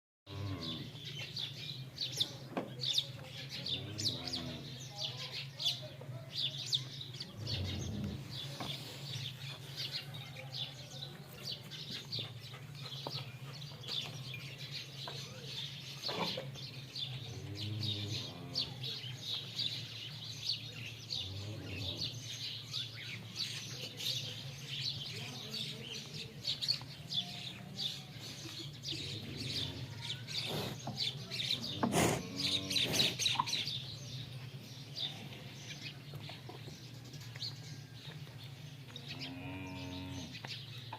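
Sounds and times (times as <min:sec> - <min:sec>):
small birds chirping: 0:00.3 - 0:40.9.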